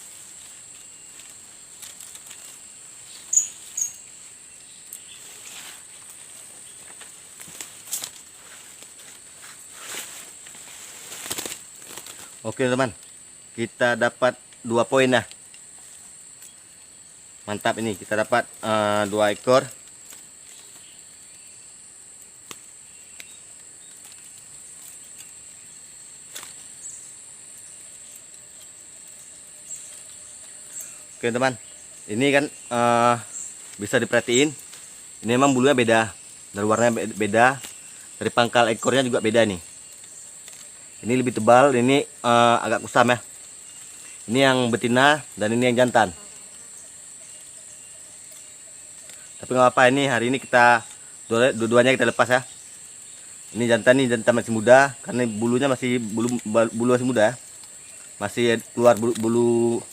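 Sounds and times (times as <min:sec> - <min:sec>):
high insect whine: 0:00.0 - 0:59.9.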